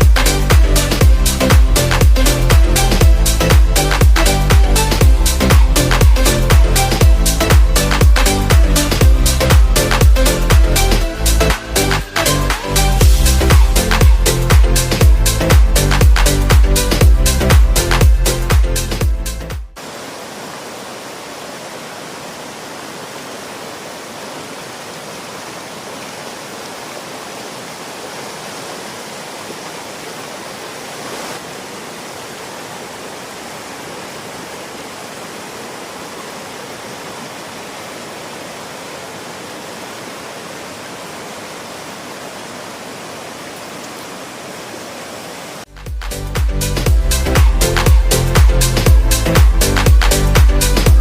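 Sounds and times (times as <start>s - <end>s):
river water rushing: 0.0s - 17.6s, 19.8s - 45.7s.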